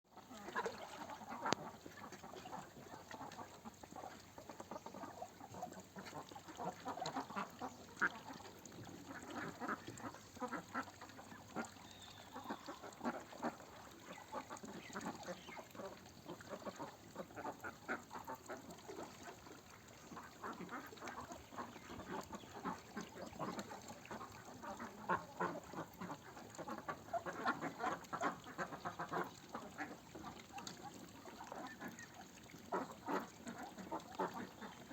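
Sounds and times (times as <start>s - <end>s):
ducks quacking: 0.2s - 19.5s, 20.1s - 34.9s.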